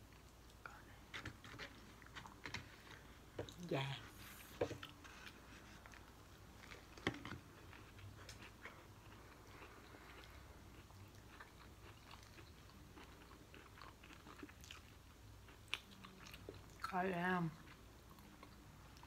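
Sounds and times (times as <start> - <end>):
chewing and crunching fried chicken: 0.0 - 19.0.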